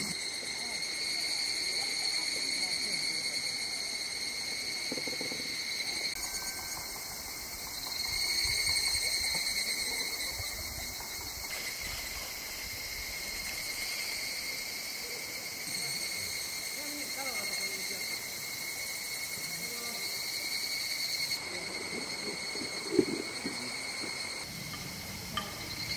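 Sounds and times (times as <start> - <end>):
insects shrilling: 0.0 - 25.9.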